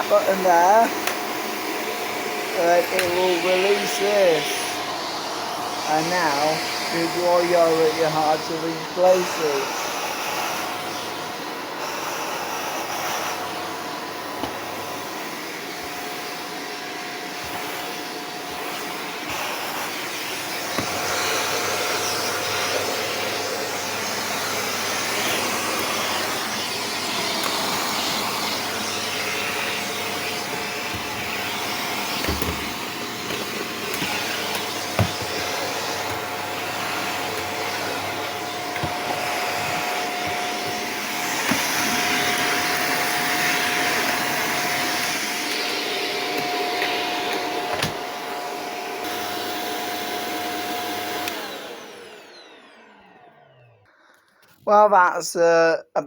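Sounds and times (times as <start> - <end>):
vacuum cleaner running: 0.0 - 55.7.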